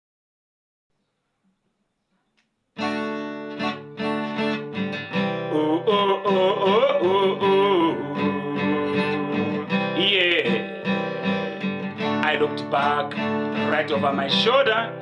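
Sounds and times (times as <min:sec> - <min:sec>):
acoustic guitar strumming chords: 0:02.8 - 0:15.0.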